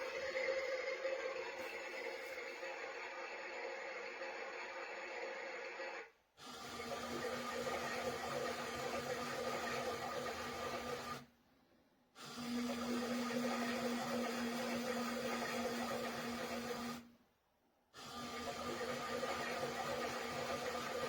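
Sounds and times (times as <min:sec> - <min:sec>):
toy washing machine whirring hum: 0:00.0 - 0:11.3, 0:12.1 - 0:17.2, 0:17.9 - 0:21.0.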